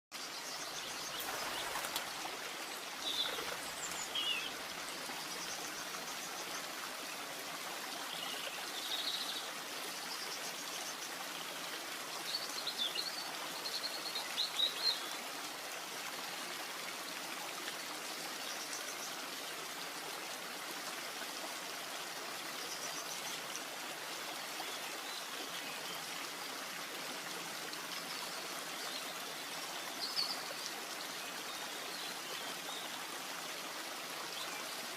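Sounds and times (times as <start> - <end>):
rushing water: 0.2 - 34.9.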